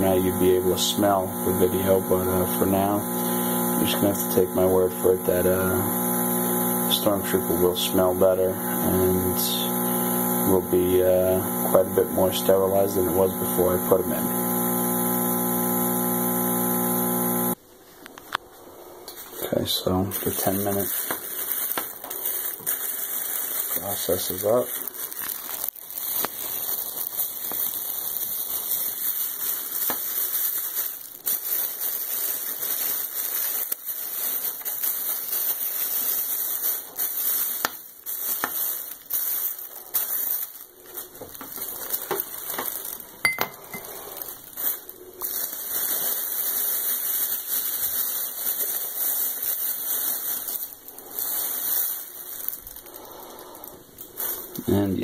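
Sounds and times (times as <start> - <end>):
plastic bag crinkling and rustling: 0.0 - 5.8, 6.9 - 9.8, 10.4 - 14.2, 17.9 - 55.0.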